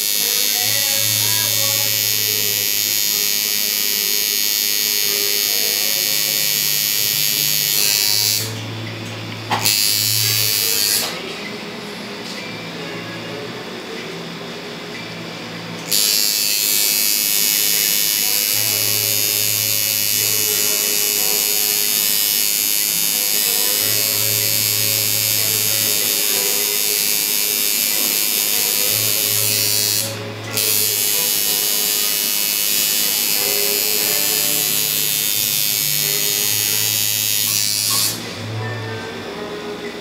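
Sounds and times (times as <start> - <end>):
tattoo machine buzzing: 0.0 - 8.7, 9.3 - 11.2, 15.8 - 38.6.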